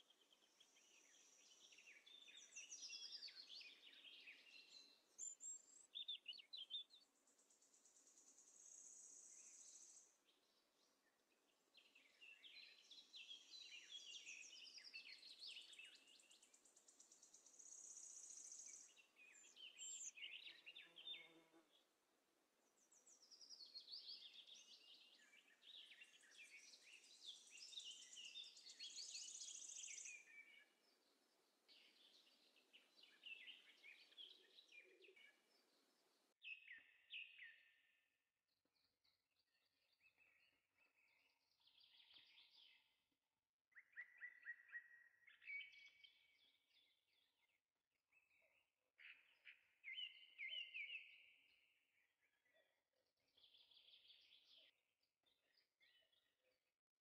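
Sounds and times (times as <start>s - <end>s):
small birds chirping and twittering: 0.0s - 22.0s, 22.6s - 43.1s, 43.7s - 56.8s.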